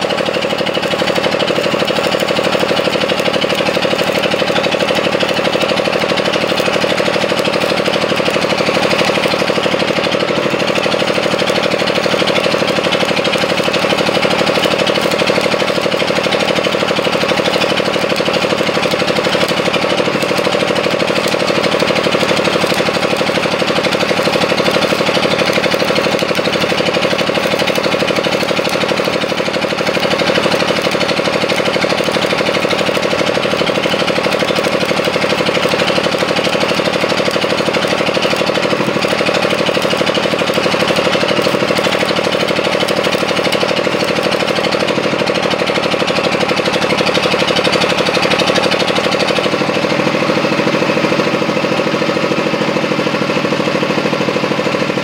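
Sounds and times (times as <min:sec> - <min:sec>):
arc welding crackle and hiss: 0:00.0 - 0:55.0
engine running with rapid pulsing: 0:00.0 - 0:55.0.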